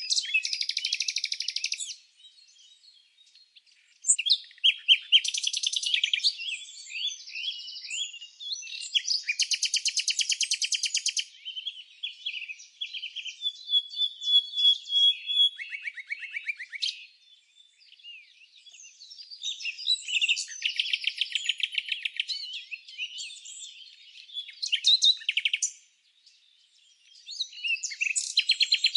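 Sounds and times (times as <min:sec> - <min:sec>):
songbirds chirping and singing: 0:00.0 - 0:28.9.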